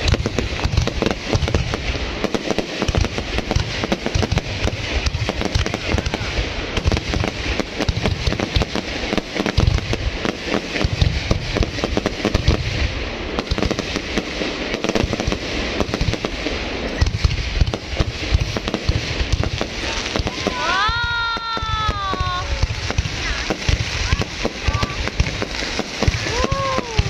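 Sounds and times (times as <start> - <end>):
fireworks booming: 0.0 - 27.0
fireworks crackling pops: 0.0 - 27.0.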